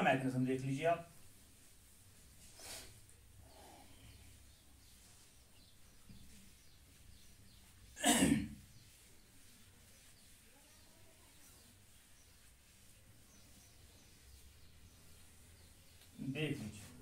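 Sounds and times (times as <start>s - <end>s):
whiteboard wiping: 1.1s - 3.0s, 4.2s - 17.0s.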